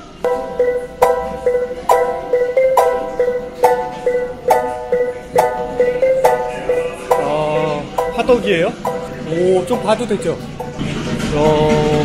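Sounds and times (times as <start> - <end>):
plucked-string tune: 0.0 - 11.3.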